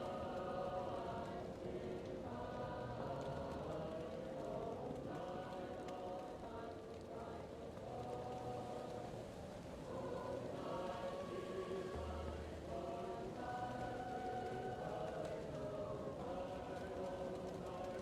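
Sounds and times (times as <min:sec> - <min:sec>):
muffled choir singing: 0:00.0 - 0:18.0
wood fire crackling: 0:00.0 - 0:18.0.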